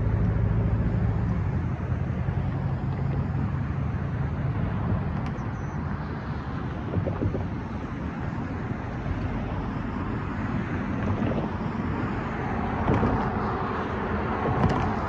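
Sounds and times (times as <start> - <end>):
cars driving by: 0.0 - 15.0
low engine hum: 0.0 - 15.0.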